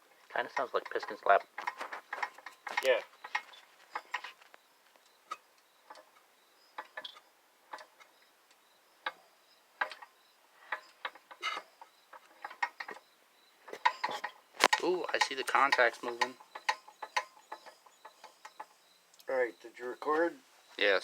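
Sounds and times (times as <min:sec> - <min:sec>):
engine metallic clicks and knocks: 0:00.3 - 0:08.3, 0:09.8 - 0:20.2.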